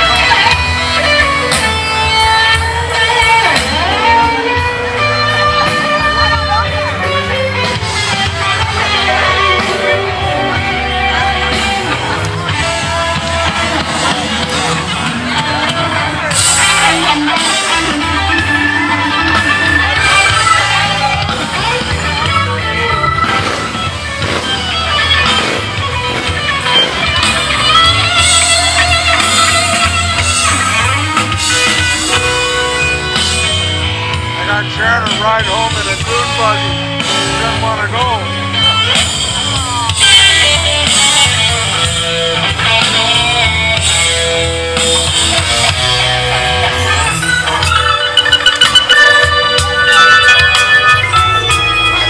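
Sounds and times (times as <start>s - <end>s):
electric guitar: 0.0s - 52.0s
live rock band playing: 0.0s - 52.0s
steady drum beat: 0.0s - 52.0s.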